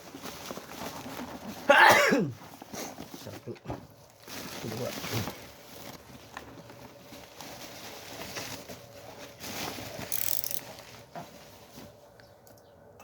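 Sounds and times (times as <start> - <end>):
packaging rustling and scraping: 0.0 - 1.7, 2.3 - 12.2.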